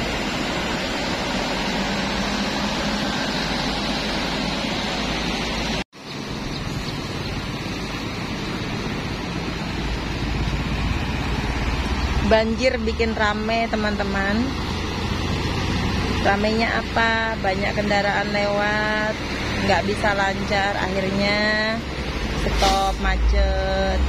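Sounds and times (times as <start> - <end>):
water washing around wheels: 0.0 - 22.6
engine rumble: 0.0 - 24.0.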